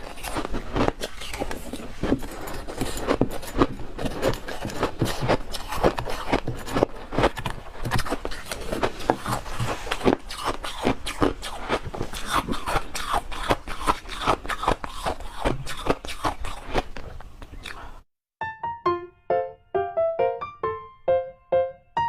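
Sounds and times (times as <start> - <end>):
crunching and chewing frost: 0.0 - 17.9.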